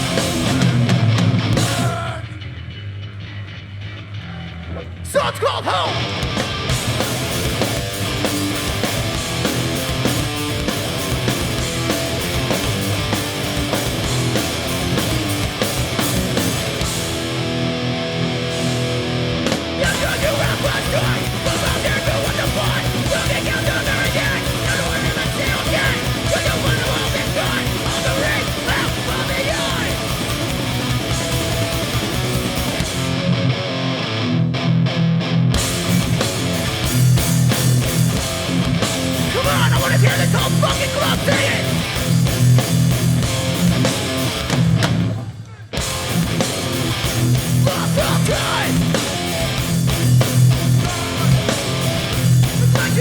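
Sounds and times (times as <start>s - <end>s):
bass guitar: 0.0s - 53.0s
distorted electric guitars: 0.0s - 53.0s
drums: 0.0s - 53.0s.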